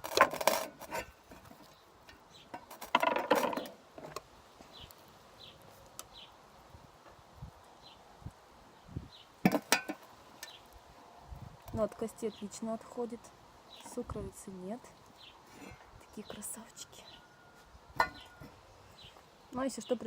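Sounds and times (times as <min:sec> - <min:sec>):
small birds chirping: 0:01.5 - 0:02.8, 0:03.6 - 0:09.4, 0:10.0 - 0:20.0.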